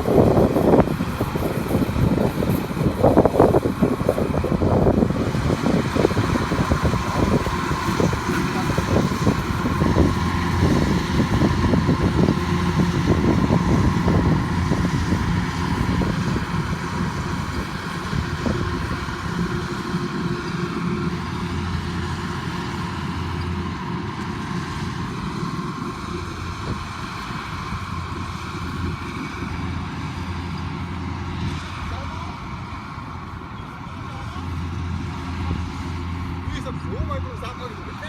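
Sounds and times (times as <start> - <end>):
farm machine engine running: 0.0 - 38.0.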